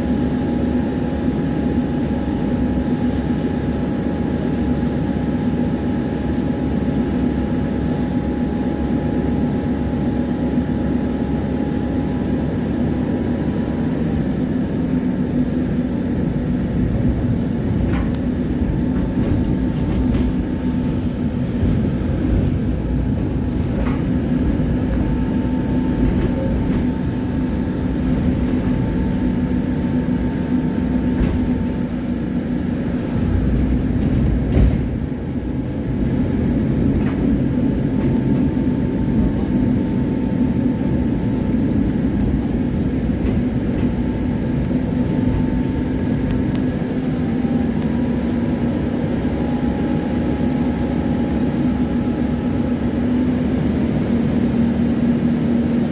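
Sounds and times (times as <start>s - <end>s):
steady hum: 0.0s - 54.3s
tram wheels rumbling on rails: 0.0s - 55.9s.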